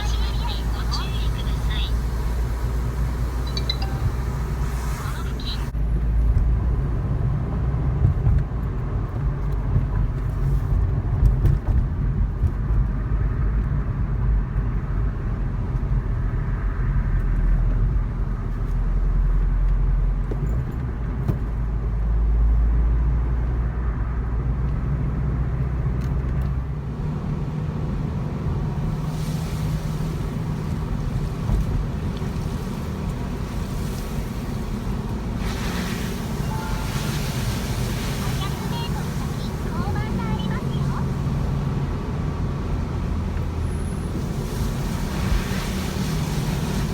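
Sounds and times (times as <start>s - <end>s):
car engine rumble: 0.0s - 46.9s
road noise: 0.0s - 46.9s.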